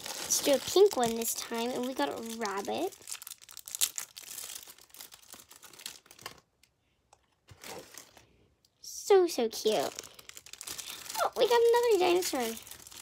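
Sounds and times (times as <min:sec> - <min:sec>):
plastic wrapper crinkling: 0:00.0 - 0:08.3, 0:09.5 - 0:13.0.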